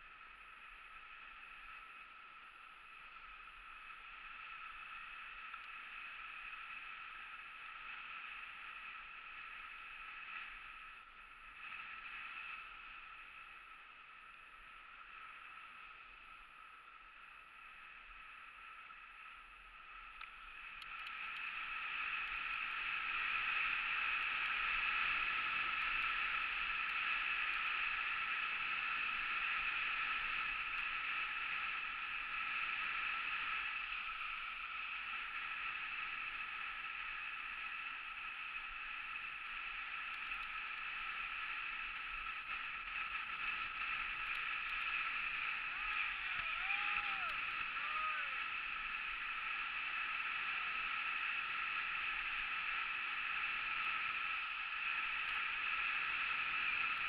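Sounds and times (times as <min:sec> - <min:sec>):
skis sliding over packed snow: 0:00.0 - 0:57.0.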